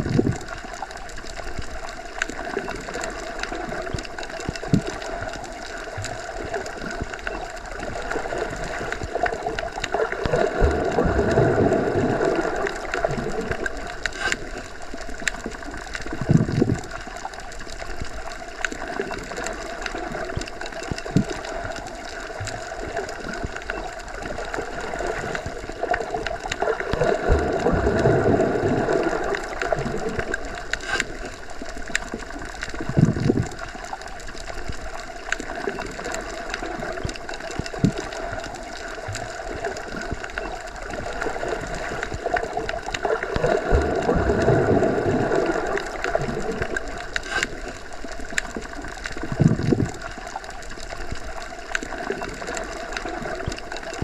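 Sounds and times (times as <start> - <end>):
muffled underwater rush and gurgle: 0.0 - 54.0.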